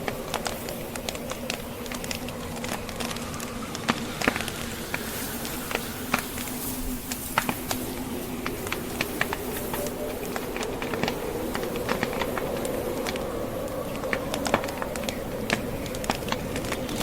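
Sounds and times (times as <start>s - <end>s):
blizzard wind: 0.0s - 17.0s
logs crackling in fireplace: 0.0s - 17.0s.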